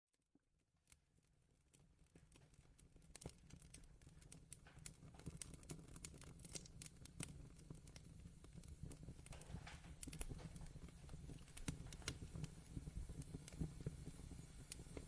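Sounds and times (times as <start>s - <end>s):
fireplace fire crackling: 0.9s - 15.0s.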